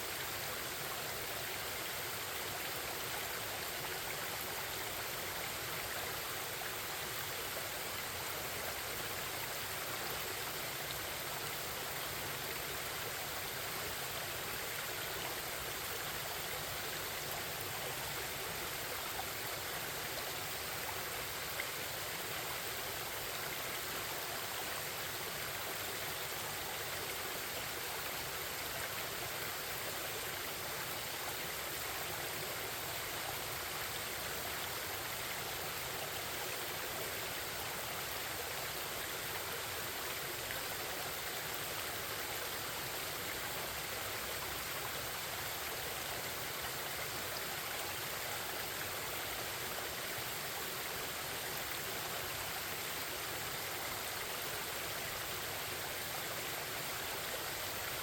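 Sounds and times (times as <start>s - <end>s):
forest stream babbling: 0.0s - 58.0s.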